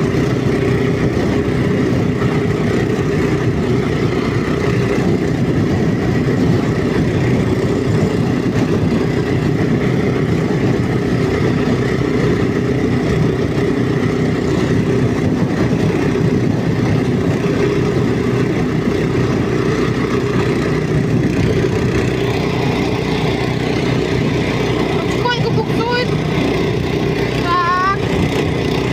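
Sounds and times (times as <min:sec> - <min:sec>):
walk-behind tractor engine running: 0:00.0 - 0:28.9.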